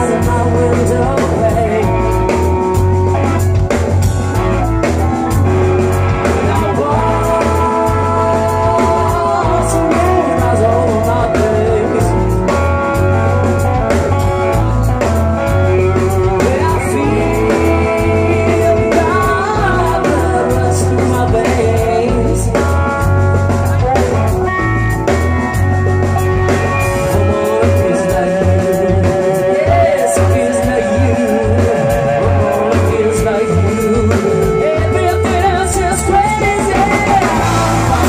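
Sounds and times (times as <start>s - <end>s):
person singing: 0.0s - 3.7s, 6.2s - 25.6s, 26.4s - 38.0s
bass guitar: 0.0s - 38.0s
drum kit: 0.0s - 38.0s
electric guitar: 0.0s - 38.0s
keyboard: 0.0s - 38.0s.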